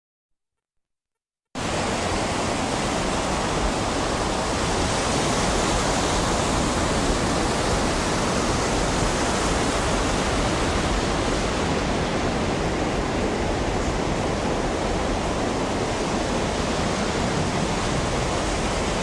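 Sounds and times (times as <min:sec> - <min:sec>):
ocean surf breaking: 0:01.6 - 0:19.0.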